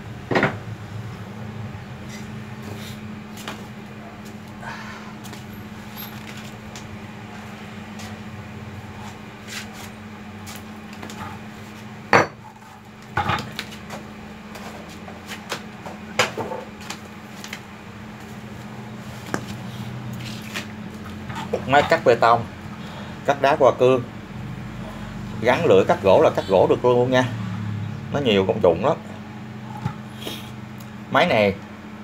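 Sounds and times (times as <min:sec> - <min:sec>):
low background hum: 0:00.0 - 0:32.0.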